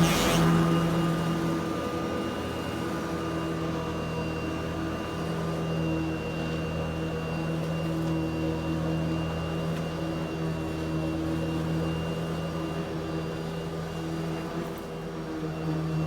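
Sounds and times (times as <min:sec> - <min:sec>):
vacuum cleaner motor hum: 0:00.0 - 0:16.0.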